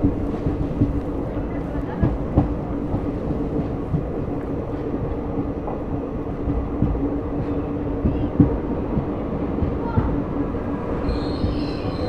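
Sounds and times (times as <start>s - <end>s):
wheels rumbling on rails: 0.0s - 12.0s.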